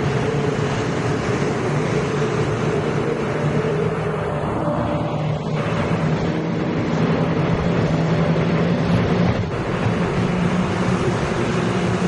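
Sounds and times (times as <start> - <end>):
low motor hum: 0.0 - 12.0
train wheels rumbling on rail: 0.0 - 12.0.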